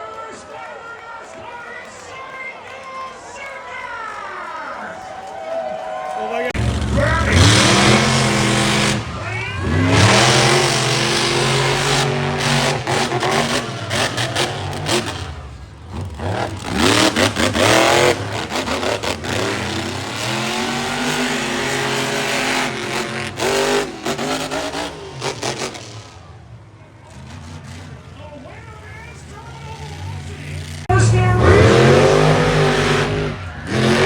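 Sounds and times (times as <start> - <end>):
truck engine revving: 6.4 - 34.0.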